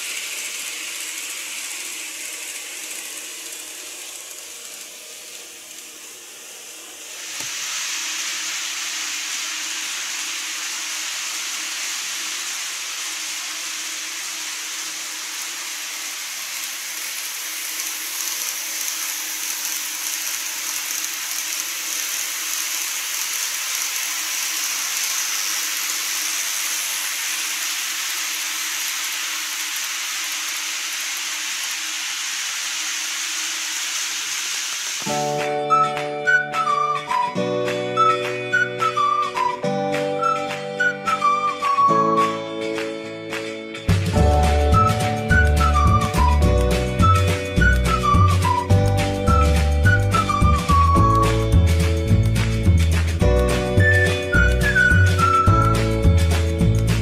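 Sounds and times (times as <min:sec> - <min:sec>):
model train wheels and motor whirring: 0:00.0 - 0:57.0.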